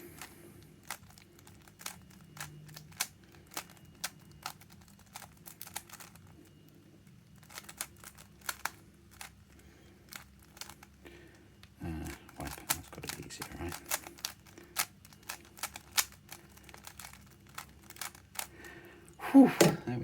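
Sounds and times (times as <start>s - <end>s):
plastic puzzle cube clicking: 0.2s - 6.7s, 7.3s - 9.4s, 10.1s - 11.0s, 11.6s - 18.5s.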